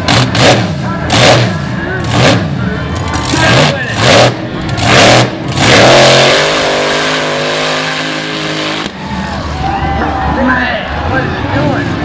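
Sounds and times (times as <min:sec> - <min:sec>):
truck engine revving: 0:00.0 - 0:09.7.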